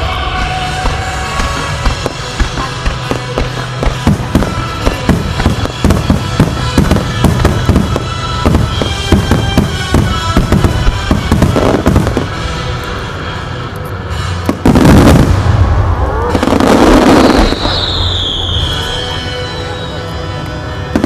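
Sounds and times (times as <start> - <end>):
fireworks bursting: 0.0 - 21.0
music: 0.0 - 21.0.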